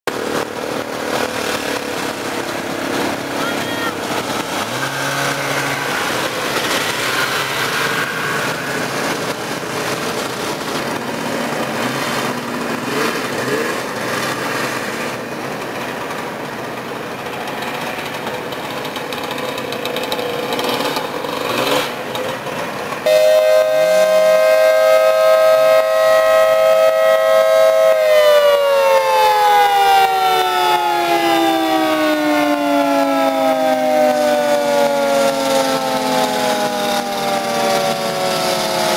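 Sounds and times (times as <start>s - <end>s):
loud whine: 0.1s - 16.1s, 23.0s - 38.9s
snowmobile engines revving: 0.1s - 38.9s.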